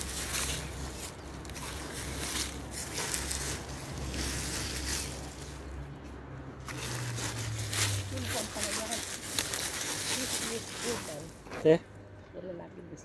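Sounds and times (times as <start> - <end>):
hand tool scraping dry soil: 0.0 - 5.7, 6.6 - 11.6.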